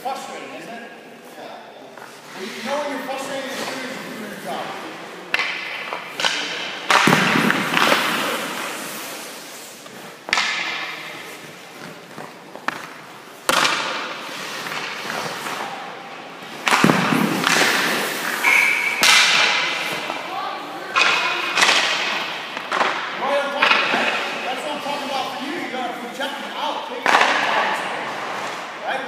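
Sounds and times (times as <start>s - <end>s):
hockey pucks striking pads and boards: 2.0s - 29.0s.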